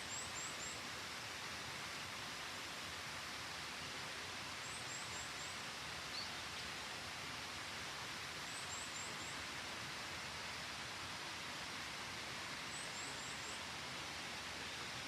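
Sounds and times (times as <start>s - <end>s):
stream flowing over rocks: 0.0s - 15.0s.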